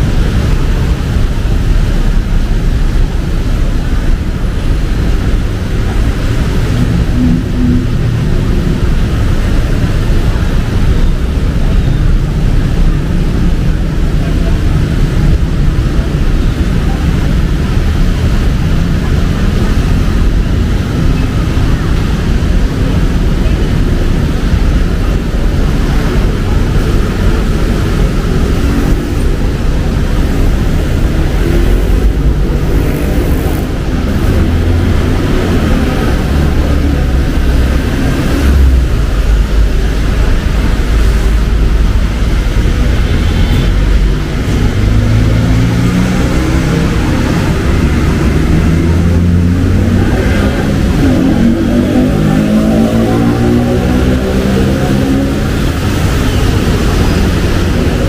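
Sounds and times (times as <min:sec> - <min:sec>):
rain hiss: 0:00.0 - 0:58.0
street traffic rumble: 0:00.0 - 0:58.0
vehicle engines passing: 0:00.0 - 0:58.0.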